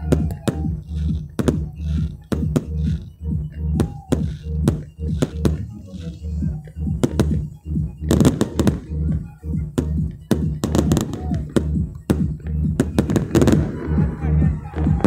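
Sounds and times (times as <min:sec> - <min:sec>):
fireworks bangs and crackles: 0:00.0 - 0:06.0, 0:06.6 - 0:15.0
loud music with pulsing bass: 0:00.0 - 0:15.0.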